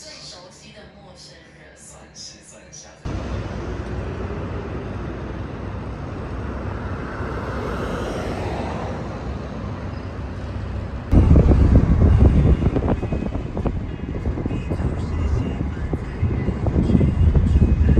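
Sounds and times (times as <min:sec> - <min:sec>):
road traffic rumble: 0:03.1 - 0:17.9
vehicle passing by: 0:03.1 - 0:17.9.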